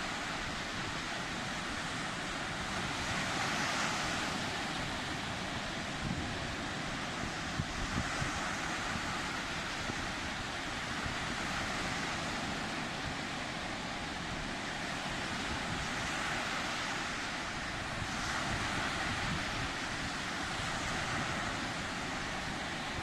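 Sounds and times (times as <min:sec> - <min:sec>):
sea waves breaking on shore: 0:00.0 - 0:23.0
wind rumble on microphone: 0:00.0 - 0:23.0.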